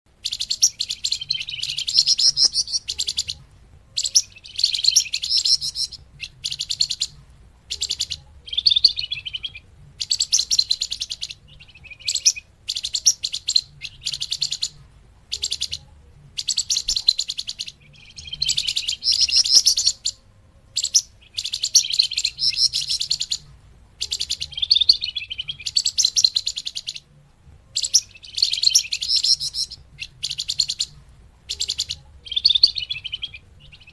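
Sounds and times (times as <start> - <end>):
bird chattering song: 0.1 - 27.1, 27.7 - 33.9.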